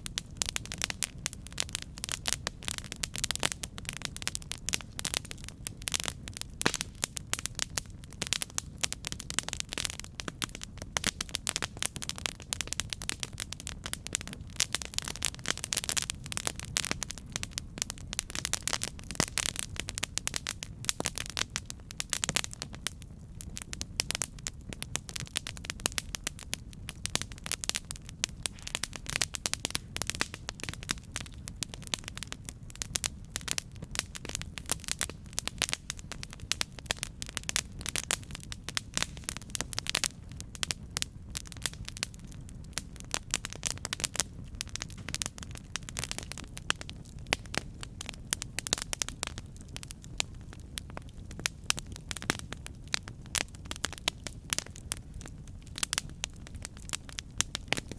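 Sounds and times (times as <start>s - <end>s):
campfire crackling and popping: 0.0s - 57.9s
campfire low rumble: 0.0s - 57.9s.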